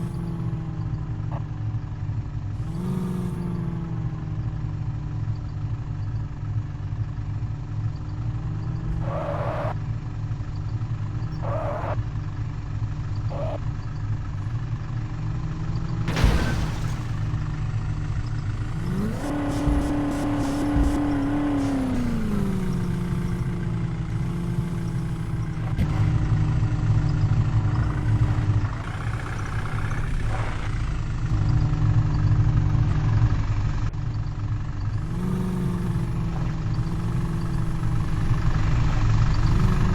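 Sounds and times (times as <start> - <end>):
truck engine idling and revving: 0.0 - 39.9.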